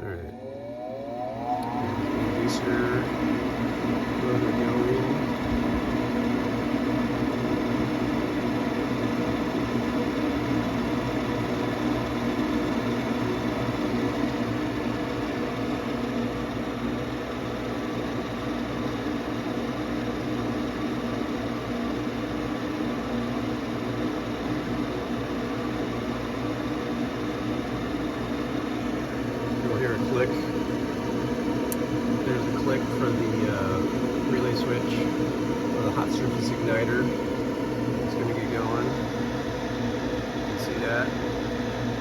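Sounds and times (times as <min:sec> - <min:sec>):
furnace motor humming: 0:00.0 - 0:42.0.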